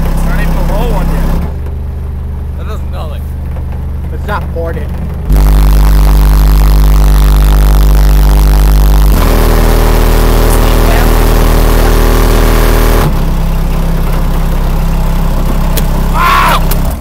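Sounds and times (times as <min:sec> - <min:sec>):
deep bass from car subwoofers: 0:00.0 - 0:17.0.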